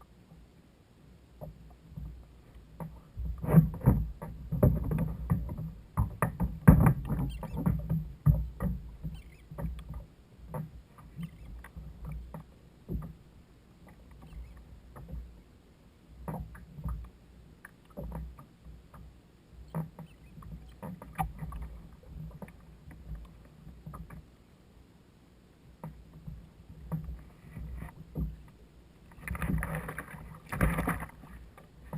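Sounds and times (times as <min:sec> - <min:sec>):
water sloshing against hull: 0:01.3 - 0:24.4, 0:25.6 - 0:31.9
small knocks and clunks: 0:01.4 - 0:15.4, 0:16.2 - 0:24.3, 0:25.8 - 0:31.9.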